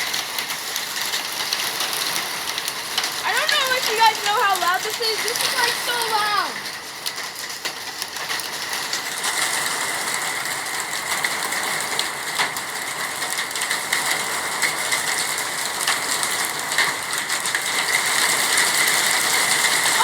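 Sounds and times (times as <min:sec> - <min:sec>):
hail and rain on hard surfaces: 0:00.0 - 0:20.0.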